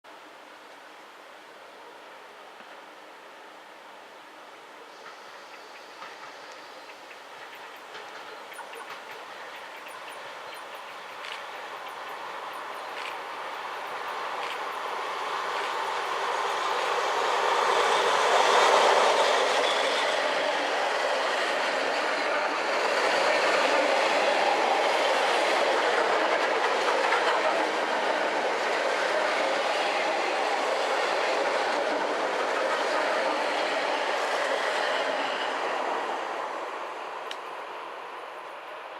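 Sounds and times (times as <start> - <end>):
electric train passing: 2.6 - 38.9.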